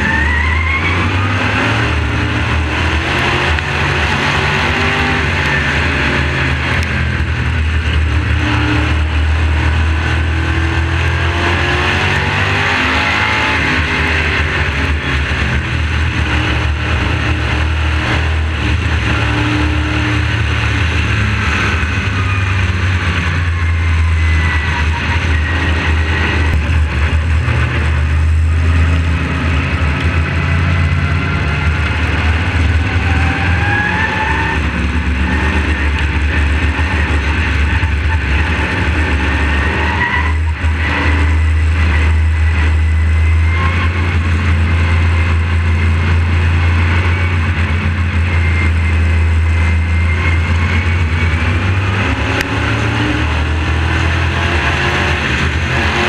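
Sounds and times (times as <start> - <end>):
race car engine droning: 0.0 - 56.0.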